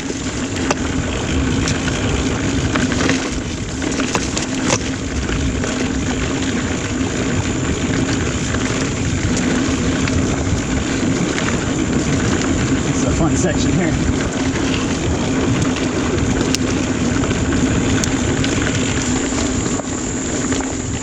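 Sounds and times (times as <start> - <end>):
bike rattling and clicking: 0.0 - 21.0
bike tyres rolling on dirt: 0.0 - 21.0
steady hum: 0.0 - 21.0
wind on microphone: 0.0 - 21.0.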